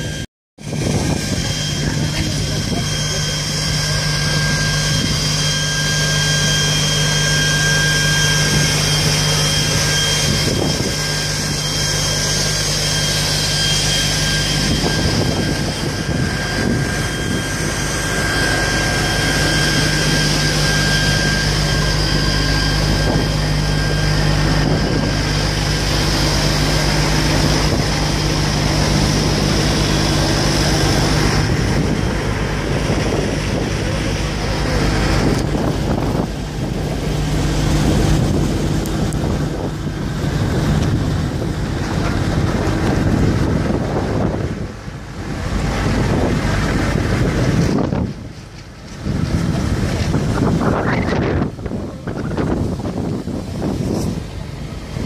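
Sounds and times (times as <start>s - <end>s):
fire engine pump drone: 0.0s - 55.0s
high whine: 0.0s - 55.0s.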